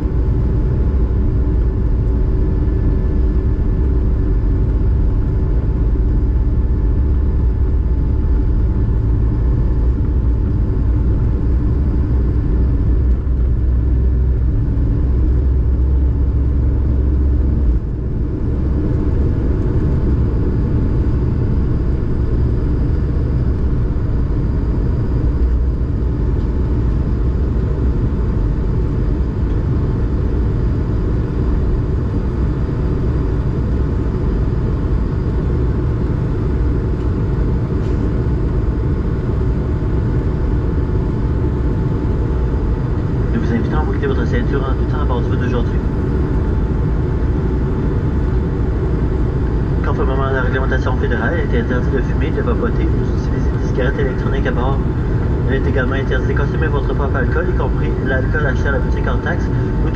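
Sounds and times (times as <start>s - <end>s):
jet engines in cabin: 0.0s - 59.9s.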